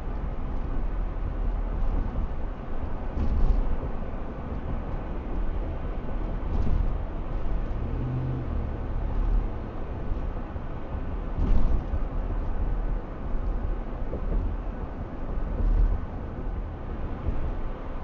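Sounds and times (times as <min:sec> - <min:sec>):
road and engine rumble: 0:00.0 - 0:18.0.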